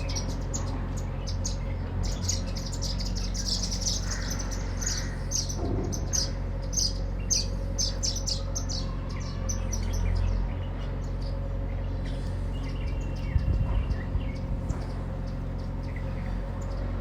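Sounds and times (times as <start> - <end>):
sparrows chirping: 0.0 - 17.0
steady low hum: 0.0 - 17.0.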